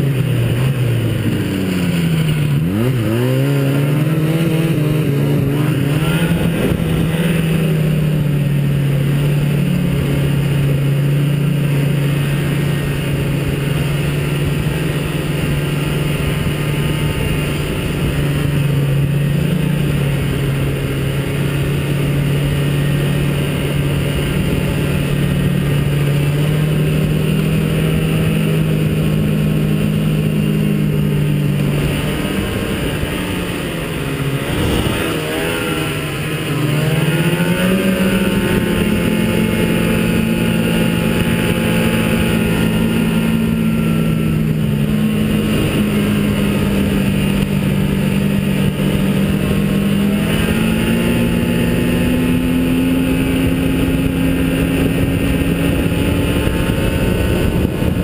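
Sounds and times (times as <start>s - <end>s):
snowmobile two-stroke engine running: 0.0s - 58.0s.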